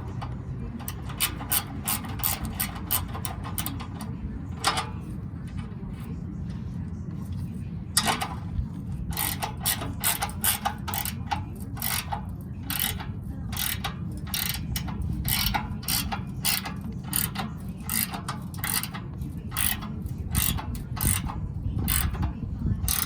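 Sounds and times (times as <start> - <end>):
ratchet wrench clicking: 0.0 - 5.7, 8.0 - 23.0.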